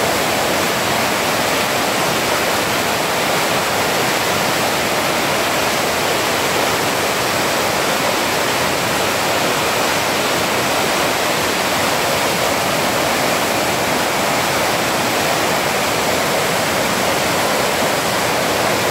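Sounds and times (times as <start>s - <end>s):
river rushing over rocks: 0.0s - 18.9s.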